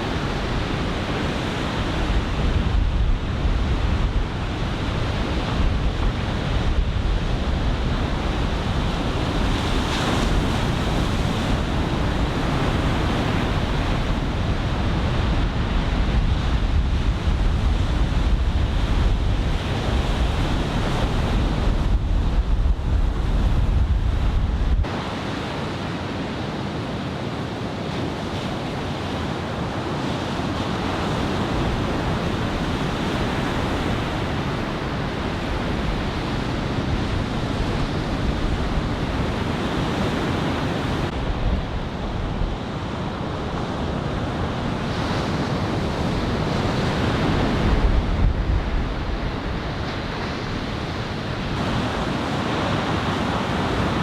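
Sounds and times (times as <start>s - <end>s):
wind buffeting microphone: 0.0s - 25.5s, 27.9s - 54.0s
ocean surf breaking: 0.0s - 54.0s.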